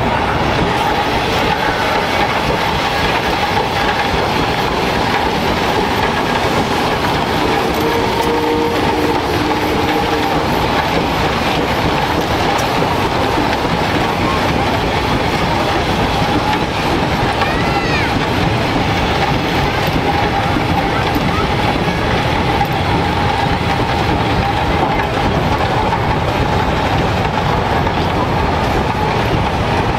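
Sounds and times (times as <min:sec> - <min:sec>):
steam traction engines clattering: 0:00.0 - 0:29.9.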